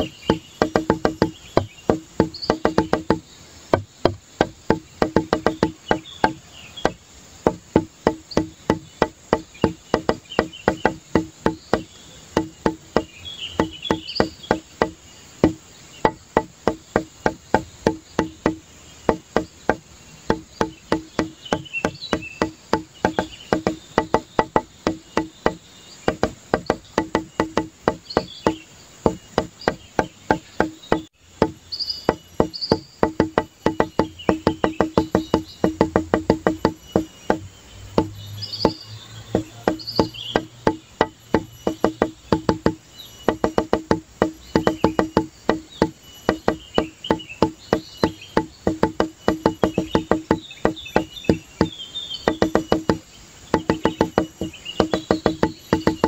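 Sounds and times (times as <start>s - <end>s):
clicking percussion beat: 0.0s - 56.0s.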